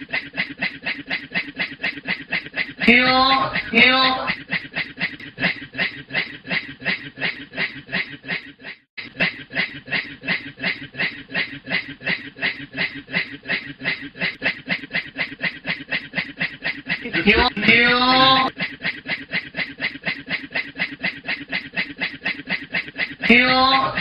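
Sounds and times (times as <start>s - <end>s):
man imitating steam train chuffs: 0.0s - 24.0s.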